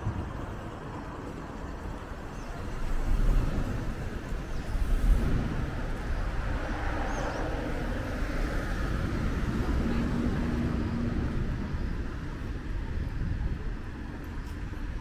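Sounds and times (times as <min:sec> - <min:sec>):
passing vehicle rumble: 0:00.0 - 0:15.0
traffic hum: 0:00.0 - 0:15.0.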